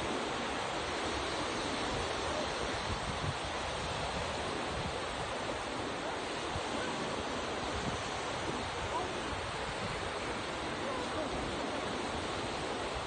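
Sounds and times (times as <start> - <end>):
ocean waves on shore: 0.0 - 13.0
wind buffeting microphone: 0.0 - 13.0.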